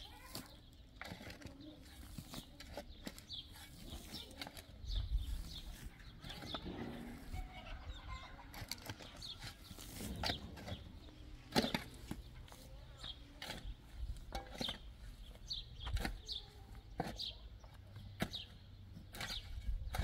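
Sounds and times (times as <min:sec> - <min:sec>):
shovel scraping stony dirt: 0:00.0 - 0:20.0.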